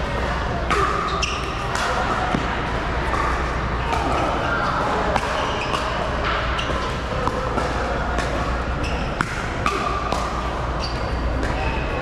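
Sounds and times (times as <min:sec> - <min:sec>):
indoor hall hum: 0:00.0 - 0:12.0.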